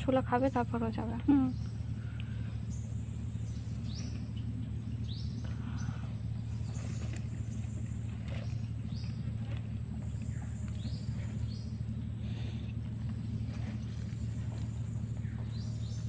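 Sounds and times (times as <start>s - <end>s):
high insect drone: 0.0s - 16.0s
low steady hum: 0.0s - 16.0s.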